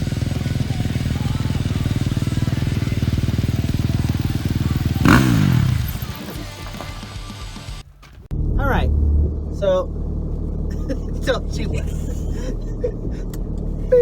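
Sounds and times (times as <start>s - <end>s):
motorbike engine running: 0.0s - 14.0s.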